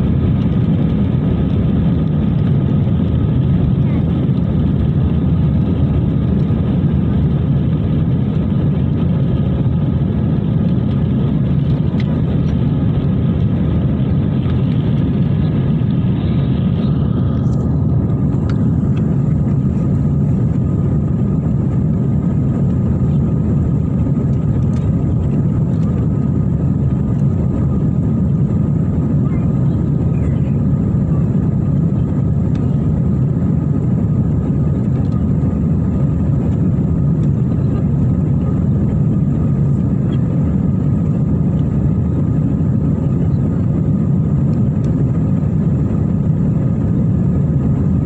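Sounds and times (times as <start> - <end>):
airliner cabin jet engine rumble: 0.0 - 48.0.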